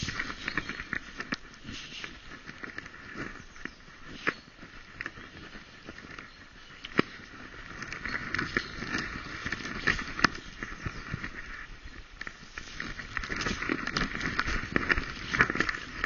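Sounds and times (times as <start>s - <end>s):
paws crunching dry leaves: 0.0s - 16.0s.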